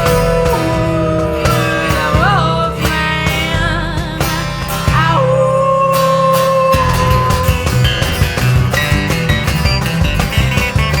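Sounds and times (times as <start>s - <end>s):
live band playing instrumental: 0.0s - 5.2s, 6.8s - 11.0s
held guitar note bending: 0.0s - 11.0s.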